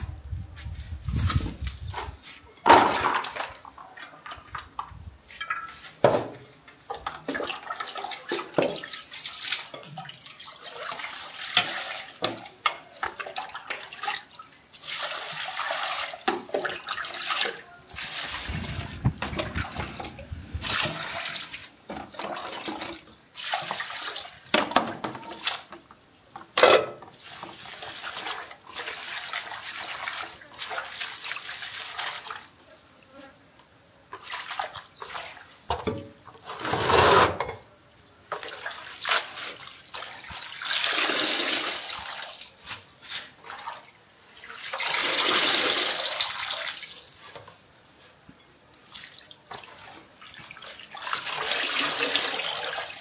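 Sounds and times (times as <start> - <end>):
water sloshing and pouring: 1.1 - 25.8, 26.8 - 32.6, 34.1 - 36.9, 38.3 - 47.7, 48.8 - 53.0.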